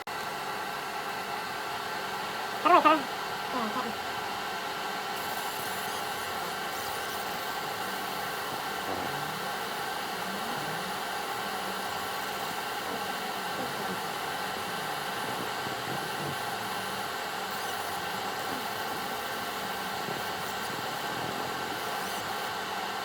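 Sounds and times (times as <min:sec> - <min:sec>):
laser engraving machine humming: 0:00.2 - 0:23.0.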